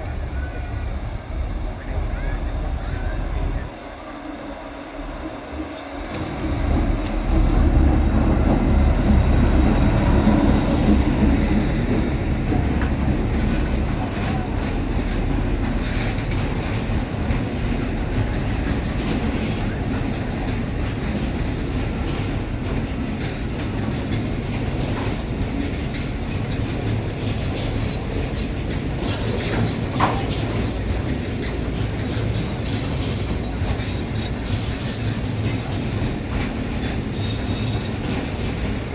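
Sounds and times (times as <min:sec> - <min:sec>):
train rumbling past: 0:00.0 - 0:38.9
wheels clattering over rail joints: 0:06.0 - 0:38.9.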